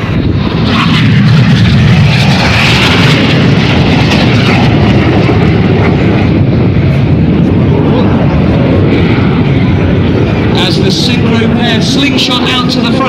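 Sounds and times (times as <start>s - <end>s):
jets roaring past: 0.0s - 13.0s.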